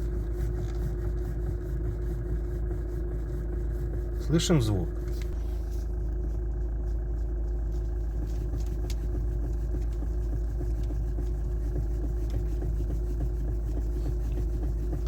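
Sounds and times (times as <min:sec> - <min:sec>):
car engine idling: 0:00.0 - 0:15.0
knocking in the steering: 0:00.0 - 0:15.0.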